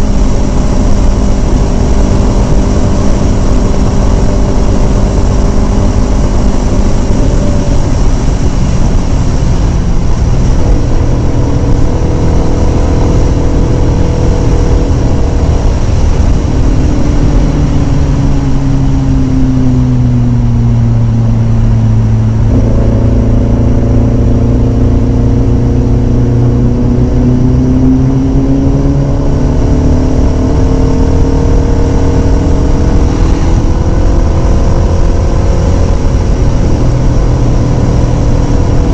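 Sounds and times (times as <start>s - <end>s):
motorcycle engine at speed: 0.0s - 38.9s
wind rushing on microphone: 0.0s - 38.9s.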